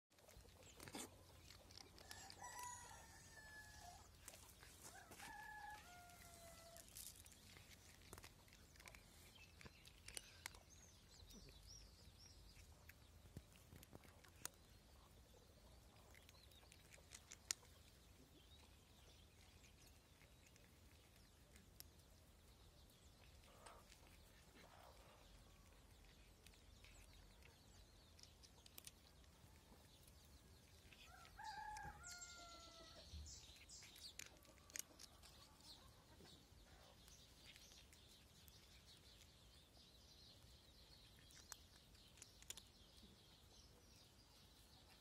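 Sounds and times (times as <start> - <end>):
cat crunching dry kibble: 0.1 - 45.0.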